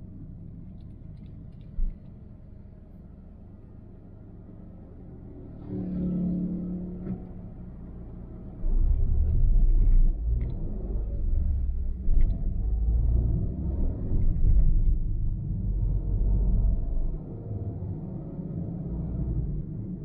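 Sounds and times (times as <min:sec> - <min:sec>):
car driving on highway: 0:00.0 - 0:20.0.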